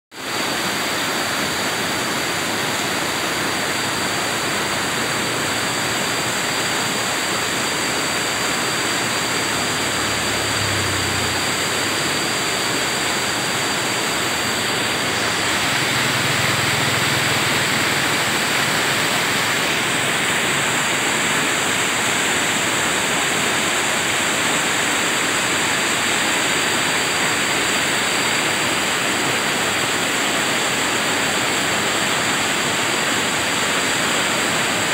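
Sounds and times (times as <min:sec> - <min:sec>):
river rushing over boulders: 0:00.2 - 0:34.9.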